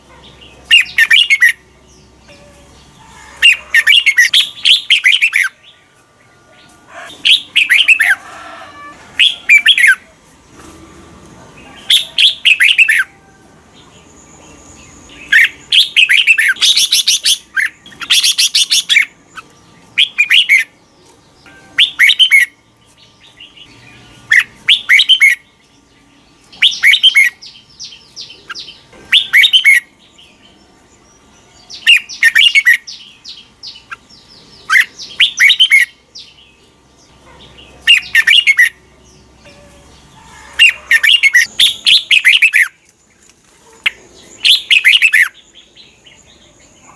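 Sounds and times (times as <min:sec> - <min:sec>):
bird singing warbling phrases: 0:00.0 - 0:05.8, 0:07.0 - 0:08.2, 0:09.2 - 0:10.1, 0:11.6 - 0:13.2, 0:13.8 - 0:43.0, 0:43.6 - 0:46.9.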